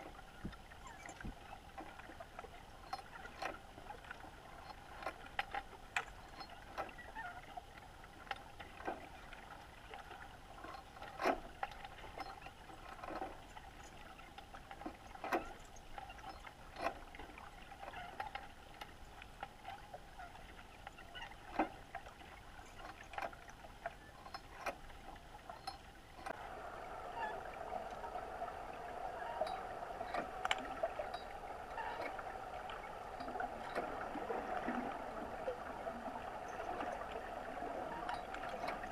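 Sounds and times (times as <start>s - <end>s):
steady underwater hum: 0.0s - 38.9s.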